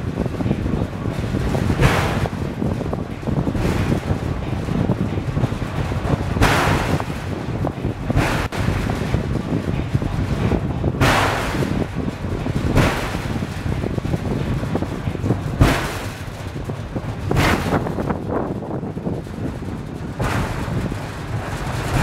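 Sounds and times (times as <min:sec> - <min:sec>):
low rumble of funicular car: 0:00.0 - 0:22.0
wind buffeting microphone: 0:00.0 - 0:22.0.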